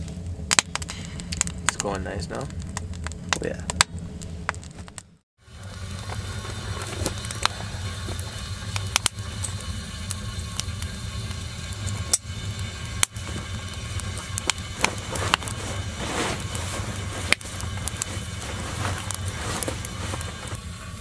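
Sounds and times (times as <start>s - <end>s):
firewood crackling and popping: 0.0s - 21.0s
wood stove low rumble: 0.0s - 21.0s.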